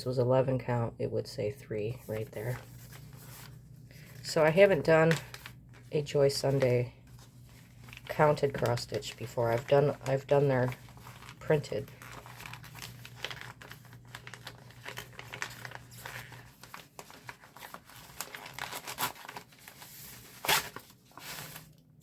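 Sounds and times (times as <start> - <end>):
plastic packaging crinkling: 2.1 - 22.0.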